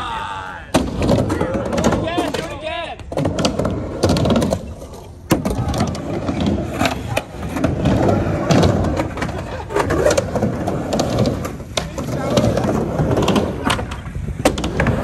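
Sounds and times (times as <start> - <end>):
skateboard wheels rumbling: 0.1 - 15.0
skateboard landing clack: 0.7 - 15.0.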